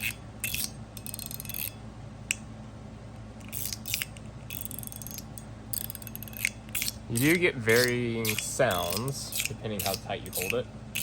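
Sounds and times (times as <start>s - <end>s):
metal fidget slider clicking: 0.0s - 1.8s, 3.4s - 11.0s.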